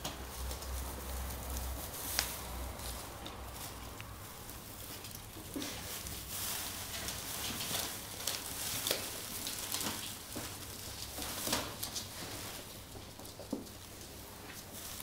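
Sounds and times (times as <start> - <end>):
shredded paper rustling: 0.0 - 15.0.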